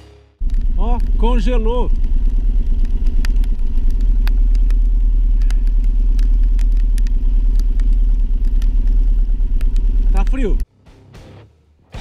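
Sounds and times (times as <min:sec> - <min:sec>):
motorcycle engine idling: 0:00.4 - 0:10.6
sharp clicks: 0:00.4 - 0:10.6
wind rumble on microphone: 0:00.4 - 0:10.6.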